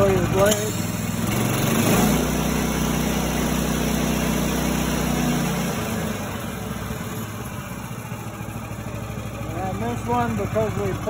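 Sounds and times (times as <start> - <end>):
sawmill gas engine running: 0.0 - 11.0.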